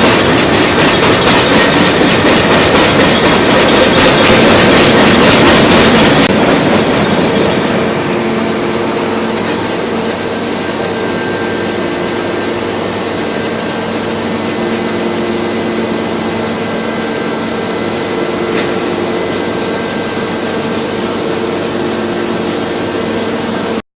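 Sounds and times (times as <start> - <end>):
industrial machinery running: 0.0 - 23.8.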